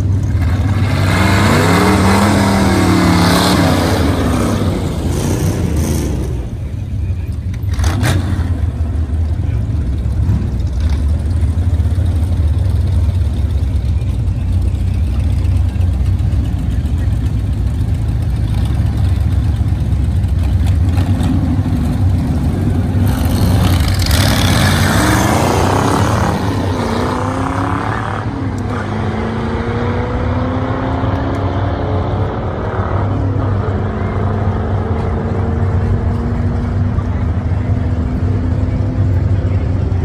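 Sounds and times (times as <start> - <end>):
hot rod engines revving: 0.0 - 40.0.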